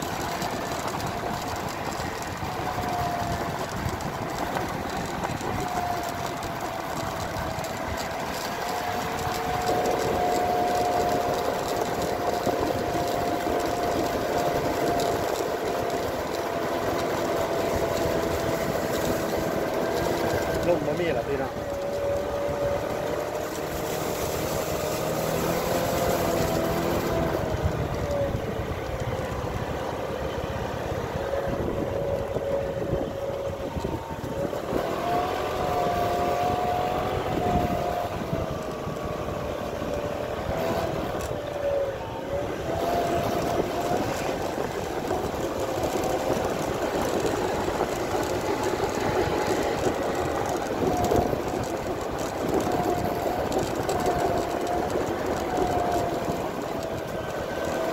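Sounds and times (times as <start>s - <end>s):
kite hummer wavering hum: 0.0s - 57.9s
scooter engine: 0.0s - 57.9s
wind noise: 0.0s - 57.9s.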